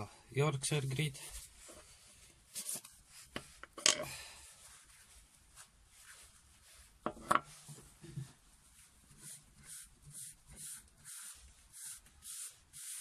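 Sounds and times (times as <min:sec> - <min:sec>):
soft rubbing and rustling: 0:00.8 - 0:03.7, 0:04.5 - 0:12.5.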